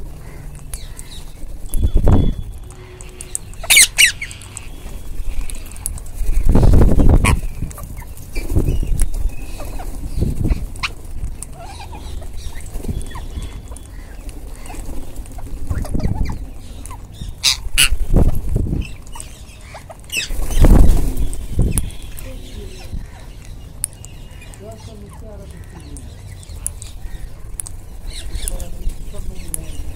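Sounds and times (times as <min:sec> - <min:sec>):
parakeets squawking: 0:00.0 - 0:29.9.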